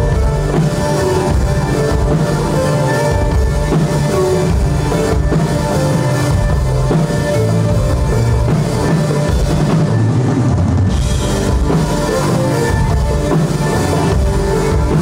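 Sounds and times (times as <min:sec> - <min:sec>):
live band playing loud music: 0:00.0 - 0:15.0.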